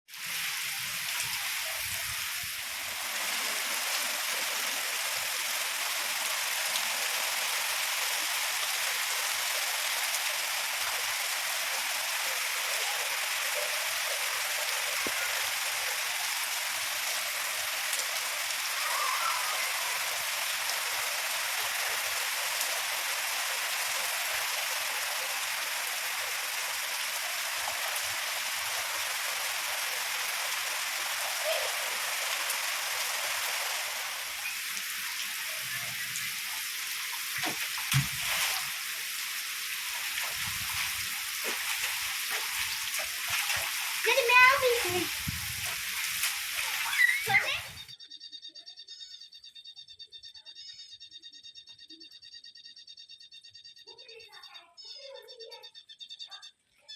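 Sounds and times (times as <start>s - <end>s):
heavy rain falling: 0.1s - 47.9s.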